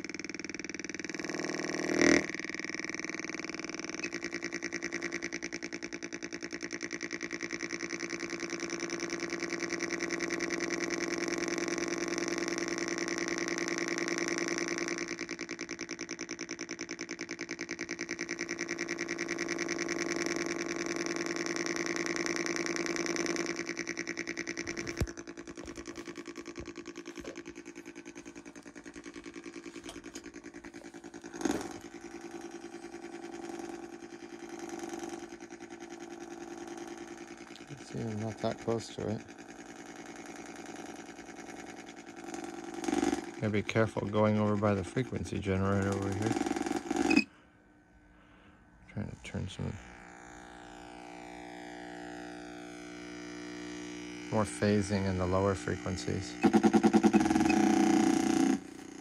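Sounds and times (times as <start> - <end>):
pulsing electronic buzz: 0.0 - 59.0.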